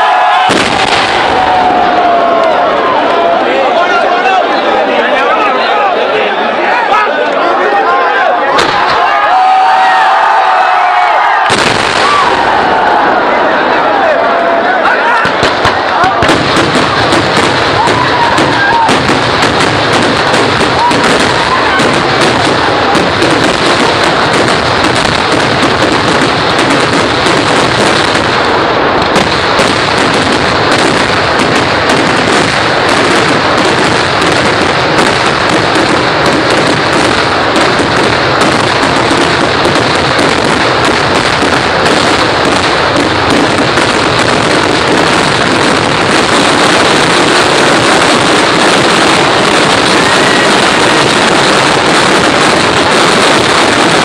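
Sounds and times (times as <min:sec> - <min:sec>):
fireworks exploding in a barrage: 0:00.0 - 0:05.5, 0:08.5 - 0:54.0.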